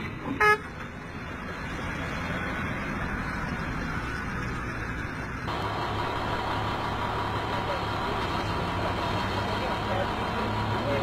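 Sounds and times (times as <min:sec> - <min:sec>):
diesel truck engine running: 0:00.9 - 0:11.0.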